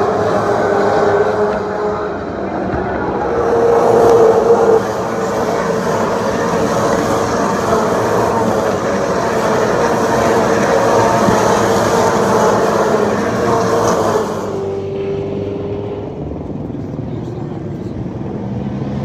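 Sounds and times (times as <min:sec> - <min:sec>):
race cars speeding past: 0:00.0 - 0:19.0.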